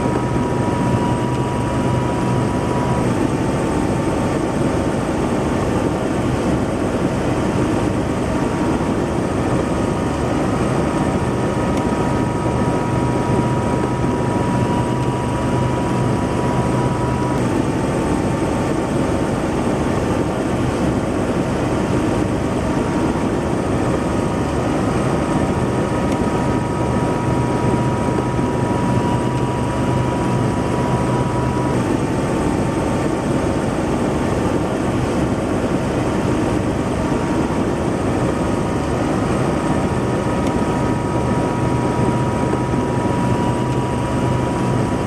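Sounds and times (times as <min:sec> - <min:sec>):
helicopter rotor and engine: 0:00.0 - 0:45.0.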